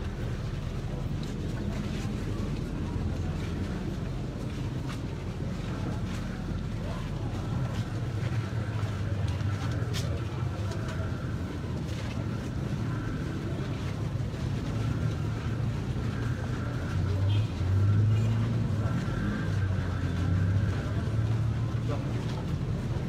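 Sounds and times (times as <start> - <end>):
faint crowd noise: 0.0 - 23.0
van engine rumbling: 0.0 - 23.0.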